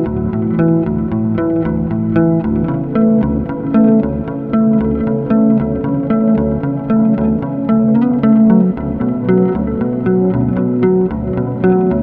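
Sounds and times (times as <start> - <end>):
plucked notes: 0.0 - 12.0
repeating bass line: 0.0 - 12.0.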